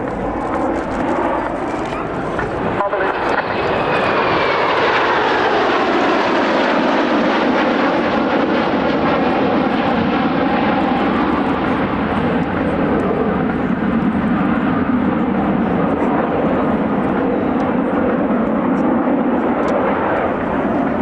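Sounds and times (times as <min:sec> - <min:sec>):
jet engine roar: 0:00.0 - 0:21.0
jet engine whine falling in pitch: 0:00.0 - 0:21.0.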